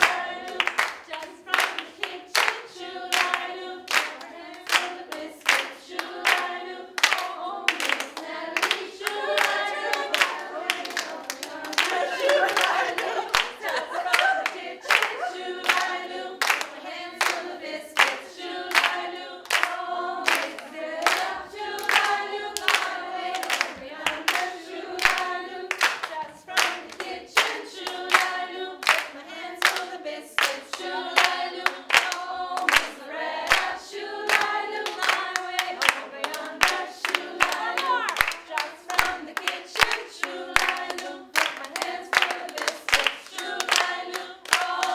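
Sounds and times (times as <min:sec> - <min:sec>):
hands clapping to a beat: 0:00.0 - 0:44.9
women singing together: 0:00.0 - 0:44.9.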